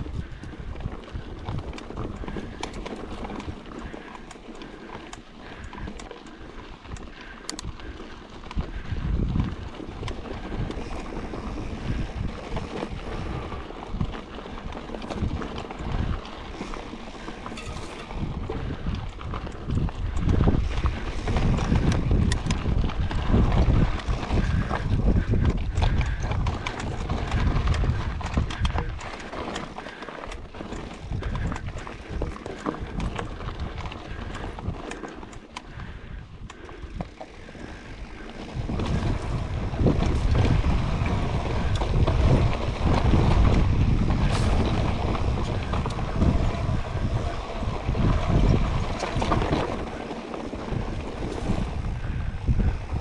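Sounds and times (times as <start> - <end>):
bike rattles and knocks: 0.0 - 53.0
bike rolling on dirt trail: 0.0 - 53.0
wind buffeting microphone: 0.0 - 53.0.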